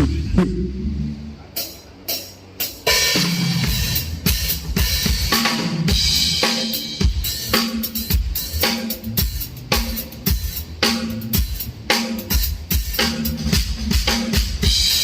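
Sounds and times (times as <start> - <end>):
drum kit beat: 0.0 - 15.0.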